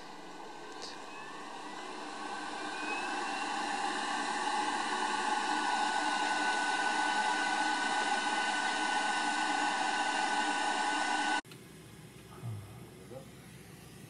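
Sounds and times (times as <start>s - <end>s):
hot air blower hissing with fan whine: 0.0s - 14.0s.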